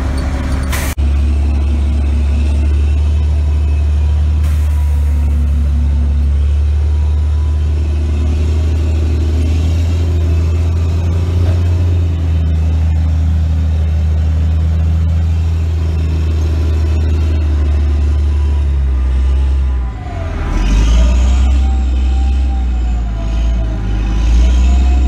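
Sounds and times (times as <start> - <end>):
heavy diesel engines droning: 0.0 - 25.0.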